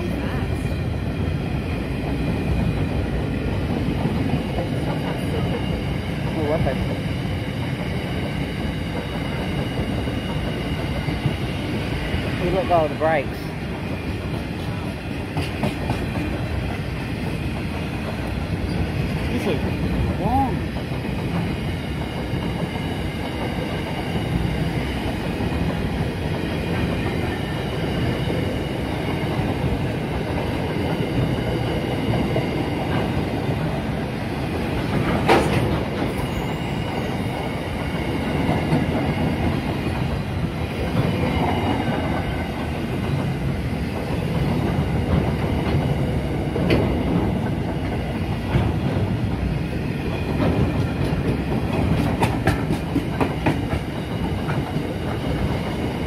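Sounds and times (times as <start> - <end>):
clickety-clack over rail joints: 0.0 - 56.0
train wheels rumbling: 0.0 - 56.0.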